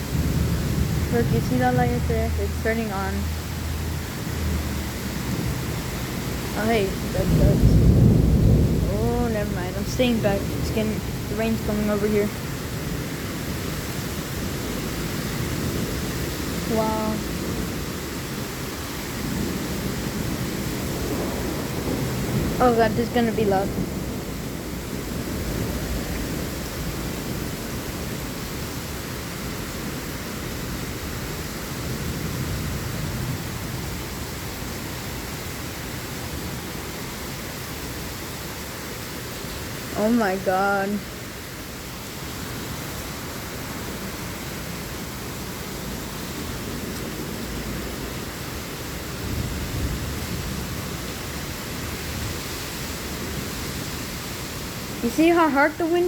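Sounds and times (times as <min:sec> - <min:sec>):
thunder rumble: 0:00.0 - 0:38.6, 0:39.2 - 0:56.0
heavy rain pouring: 0:00.0 - 0:56.0.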